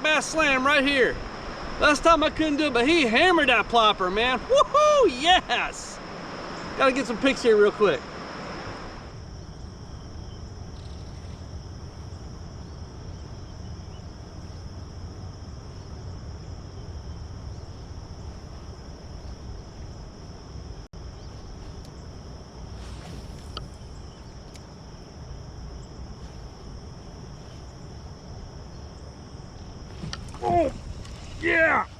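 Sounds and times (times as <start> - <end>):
insects singing: 0.0 - 31.9
low background rush: 0.0 - 31.9.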